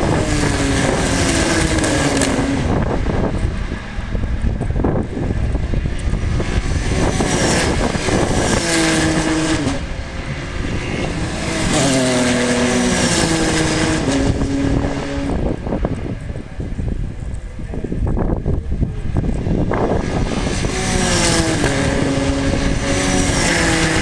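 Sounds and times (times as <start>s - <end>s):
engines changing gear: 0.0s - 24.0s
racing cars passing at speed: 0.0s - 24.0s.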